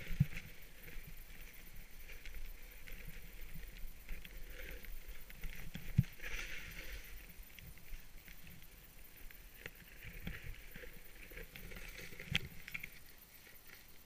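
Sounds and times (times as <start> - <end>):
ski edges scraping packed snow: 0.0 - 14.0.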